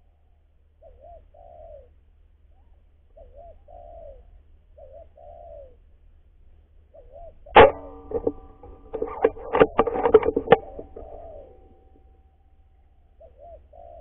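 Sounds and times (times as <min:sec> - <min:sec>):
dove cooing: 0:00.8 - 0:05.9, 0:06.9 - 0:12.1, 0:13.1 - 0:14.0.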